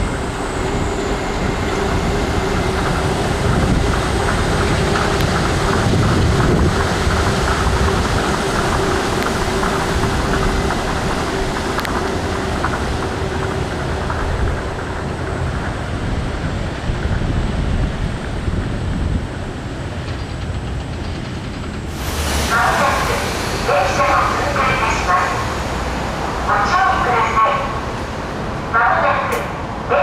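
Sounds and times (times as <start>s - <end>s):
monorail train whining past: 0.0s - 30.0s.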